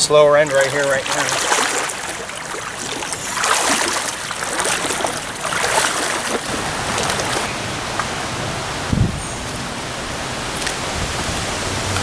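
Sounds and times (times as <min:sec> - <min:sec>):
stream water rushing: 0:00.0 - 0:12.0
wind gusts: 0:00.0 - 0:12.0.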